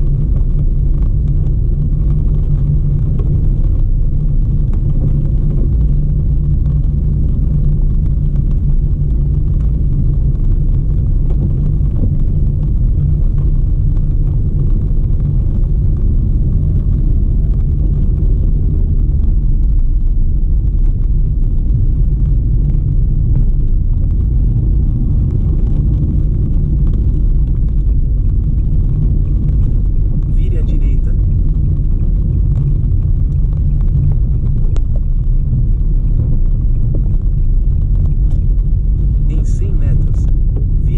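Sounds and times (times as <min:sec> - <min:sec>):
car road and engine noise: 0:00.0 - 0:40.9.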